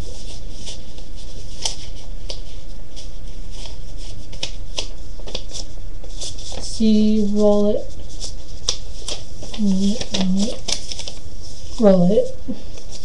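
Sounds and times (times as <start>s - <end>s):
paper rustling and crackling: 0.0s - 13.0s.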